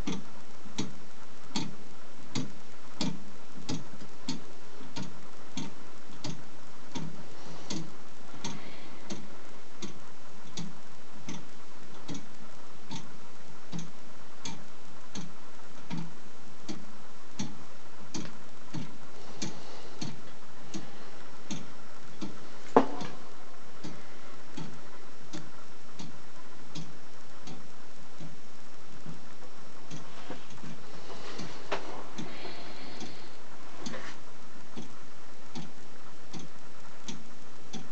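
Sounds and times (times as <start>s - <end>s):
clock ticking: 0.0s - 37.9s.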